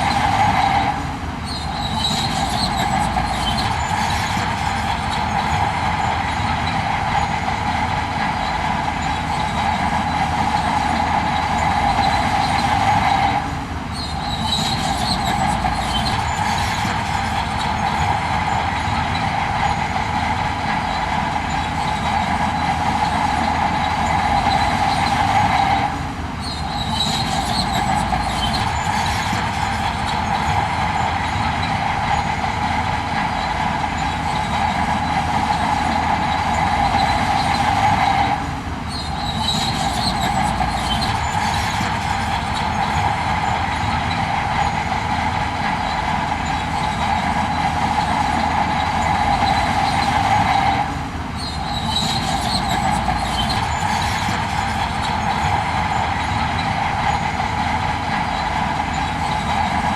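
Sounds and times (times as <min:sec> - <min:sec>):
heavy machinery engine: 0:00.0 - 0:59.9
high squealing whine: 0:00.0 - 0:59.9.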